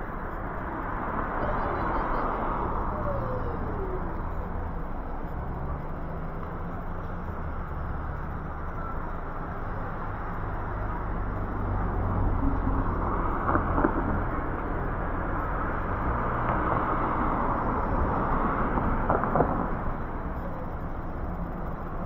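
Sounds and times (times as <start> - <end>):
cars driving past: 0.0 - 22.0
low engine hum: 0.0 - 22.0.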